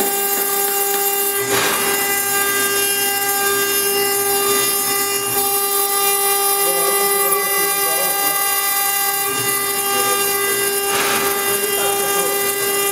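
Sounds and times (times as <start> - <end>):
bit grinding stone: 0.0 - 12.9
router spindle whining: 0.0 - 12.9.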